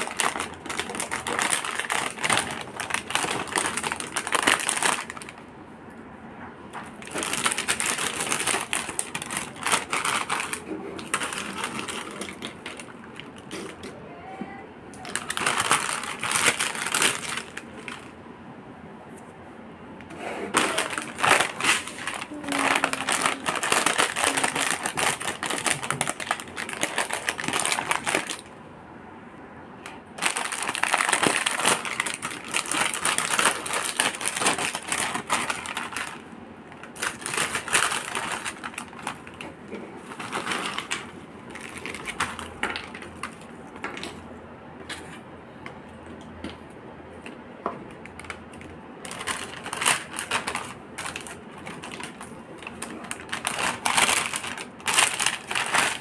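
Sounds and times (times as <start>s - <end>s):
foil snack packets crinkling: 0.0s - 5.5s, 6.8s - 13.8s, 15.0s - 18.1s, 20.5s - 28.6s, 30.0s - 44.2s, 47.9s - 56.0s.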